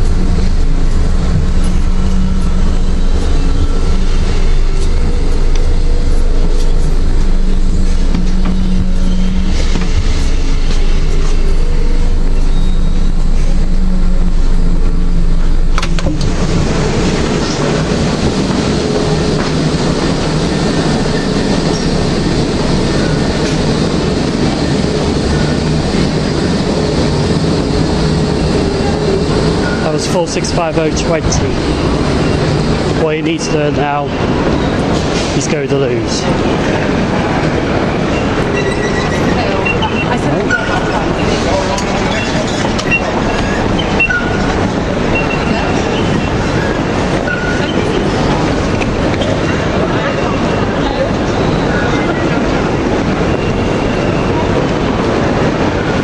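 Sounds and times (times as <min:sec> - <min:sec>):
electric train humming: 0:00.0 - 0:56.0.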